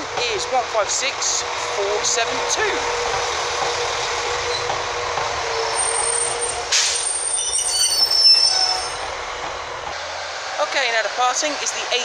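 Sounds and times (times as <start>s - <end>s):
brakes squealing: 0.0s - 11.8s
train engine and wheels rumbling: 0.0s - 12.0s.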